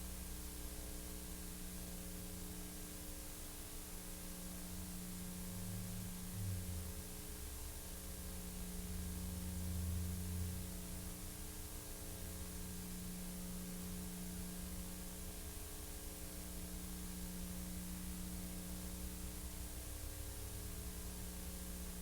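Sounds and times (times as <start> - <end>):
electrical hum with hiss: 0.0 - 22.0.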